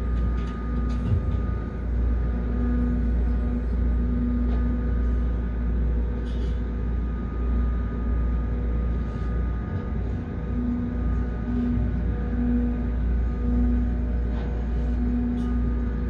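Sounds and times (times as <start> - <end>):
constant machine hum: 0.0 - 16.0
low machine rumble: 0.0 - 16.0.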